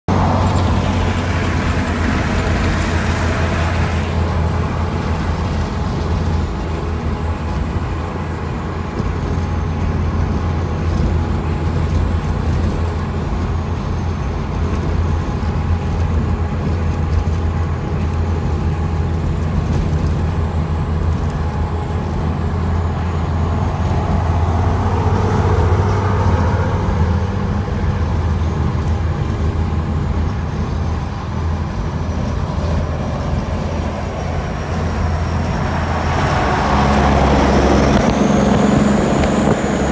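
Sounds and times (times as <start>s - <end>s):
car engine and tyre drone: 0.1s - 39.9s.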